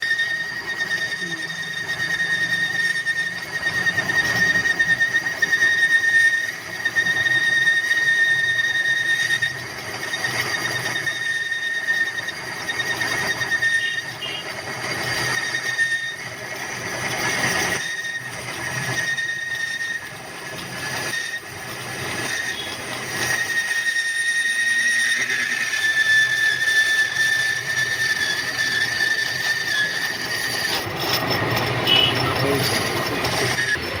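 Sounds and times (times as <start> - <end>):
lathe running: 0.0 - 34.0
lathe tool high-pitched ring: 0.0 - 34.0.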